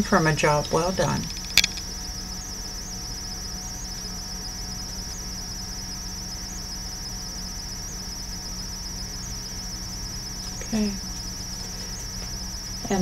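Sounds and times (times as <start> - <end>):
insects chirping: 0.0 - 13.0
low steady hum: 0.0 - 13.0.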